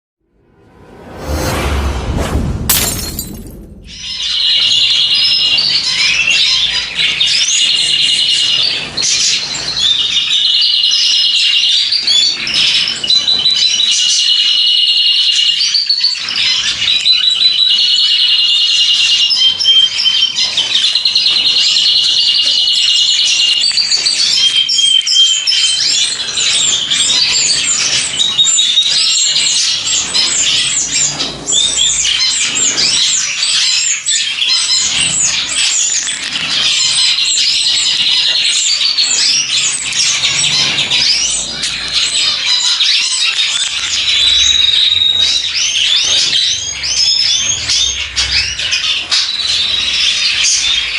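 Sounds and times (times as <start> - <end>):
cage birds chirping: 2.7 - 50.9.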